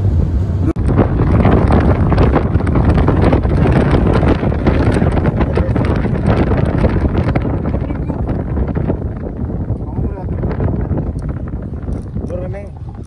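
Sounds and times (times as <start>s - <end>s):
vehicle rumbling on dirt road: 0.0s - 13.0s
wind buffeting microphone: 0.0s - 13.0s.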